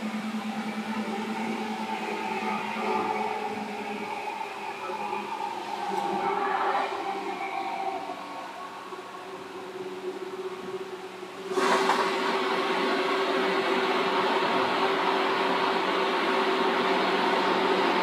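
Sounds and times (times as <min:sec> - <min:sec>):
electric train running rumble: 0:00.0 - 0:18.0
steady hum: 0:00.0 - 0:18.0.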